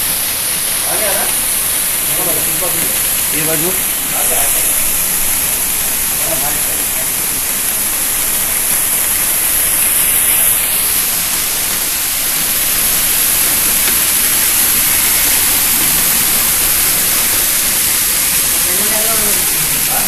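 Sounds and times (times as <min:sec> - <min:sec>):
machine rushing noise with hiss: 0:00.0 - 0:20.0.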